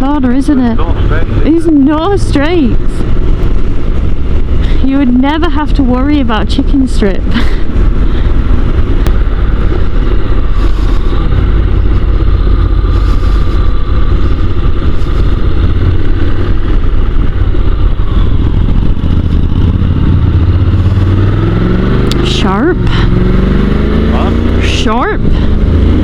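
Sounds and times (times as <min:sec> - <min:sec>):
motorcycle engine rumble: 0:00.0 - 0:26.0
road and wind noise: 0:00.0 - 0:26.0.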